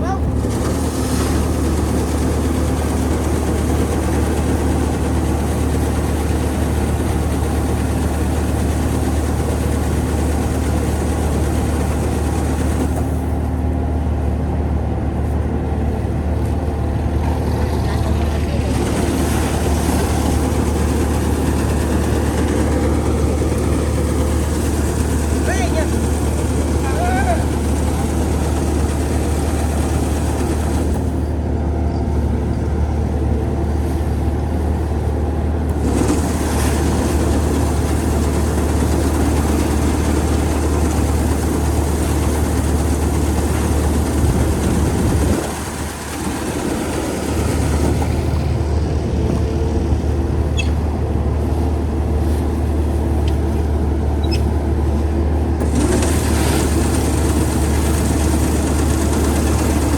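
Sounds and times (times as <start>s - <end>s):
engine humming: 0.0s - 59.9s.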